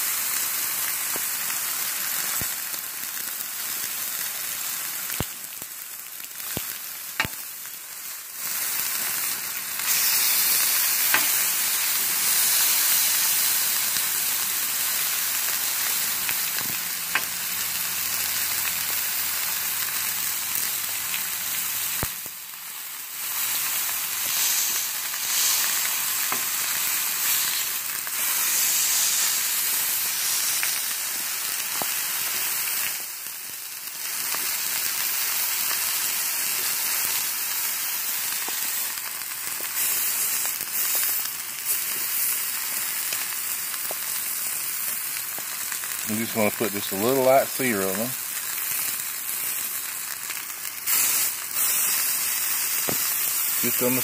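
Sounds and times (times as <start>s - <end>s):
steaks sizzling on a griddle: 0.0s - 54.0s.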